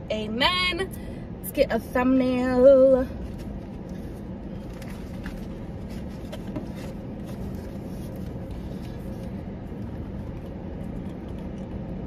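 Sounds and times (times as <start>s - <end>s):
car cabin rumble: 0.1s - 12.0s.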